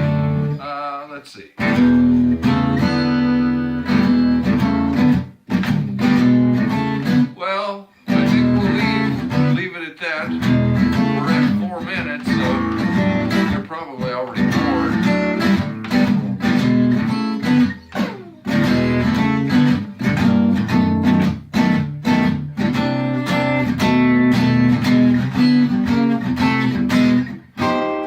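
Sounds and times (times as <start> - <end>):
amplified acoustic guitar strumming: 0.0 - 28.0.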